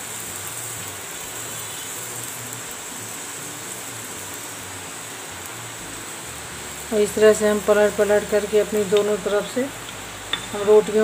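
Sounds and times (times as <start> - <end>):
butter sizzling on hot pan: 0.0 - 11.0.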